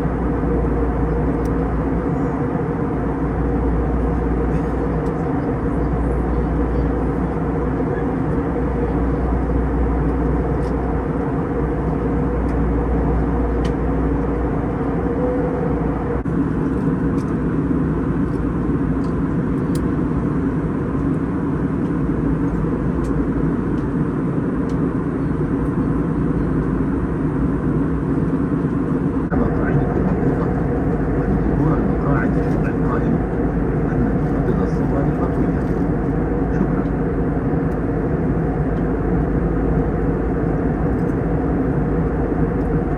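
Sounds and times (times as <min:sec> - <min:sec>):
airliner cabin engine drone: 0:00.0 - 0:42.9.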